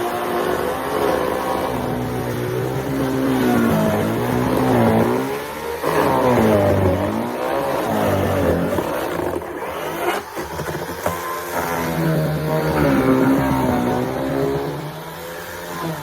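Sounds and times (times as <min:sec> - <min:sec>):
chainsaw cutting: 0:00.0 - 0:16.0.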